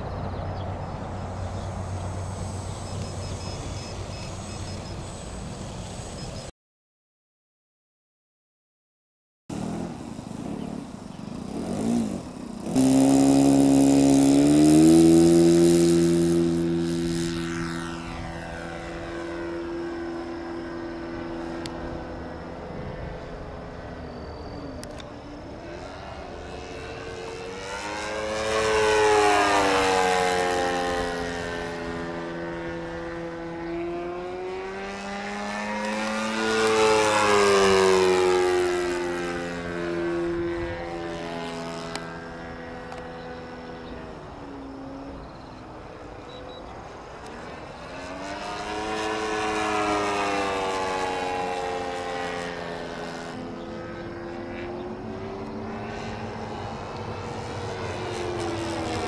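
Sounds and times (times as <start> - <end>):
model airplane motor passing: 0.0 - 6.5, 9.5 - 59.0.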